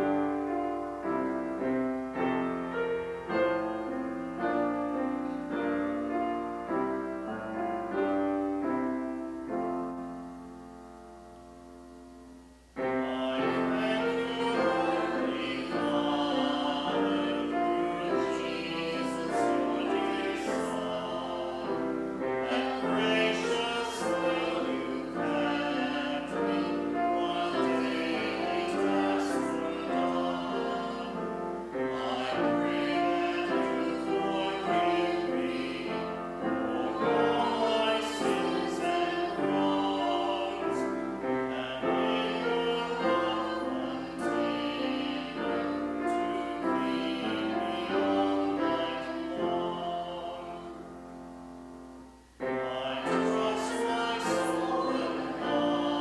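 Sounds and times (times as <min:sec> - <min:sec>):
congregation singing a hymn: 0:00.0 - 0:10.7, 0:12.7 - 0:56.0.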